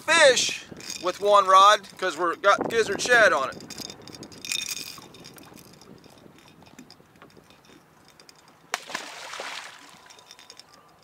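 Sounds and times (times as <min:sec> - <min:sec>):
fishing tackle clicking and clinking: 0:00.7 - 0:11.0.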